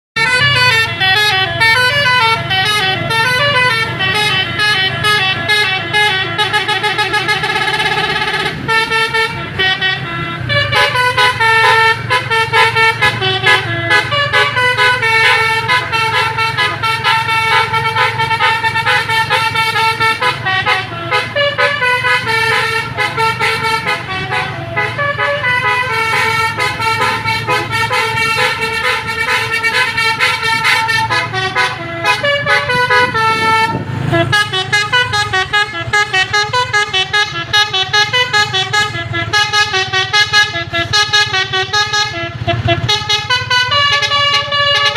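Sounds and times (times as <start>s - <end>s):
bus musical horns playing: 0.2s - 44.9s.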